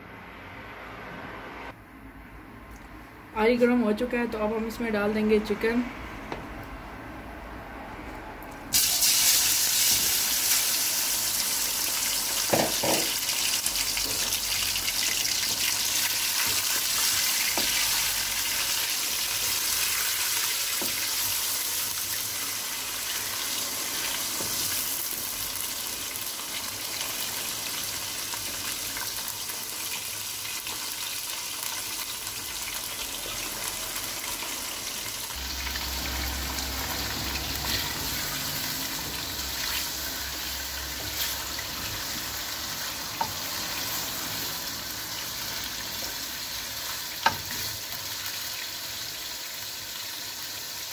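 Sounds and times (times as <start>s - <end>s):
chicken sizzling in hot oil: 8.7s - 50.9s.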